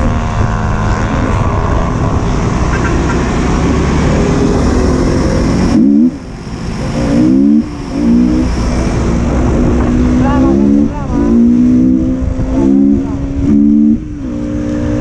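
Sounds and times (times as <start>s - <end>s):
motorcycle engine revving: 0.0s - 15.0s
rushing noise: 0.0s - 15.0s.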